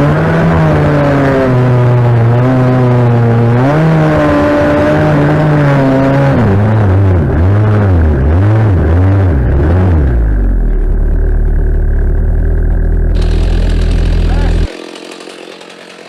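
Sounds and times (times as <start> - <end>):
small engine revving: 0.0 - 10.4, 13.1 - 16.0.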